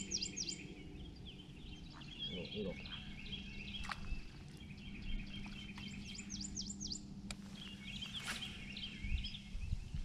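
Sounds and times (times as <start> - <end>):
songbirds chirping: 0.0 - 10.0
steady low hum: 0.0 - 10.0.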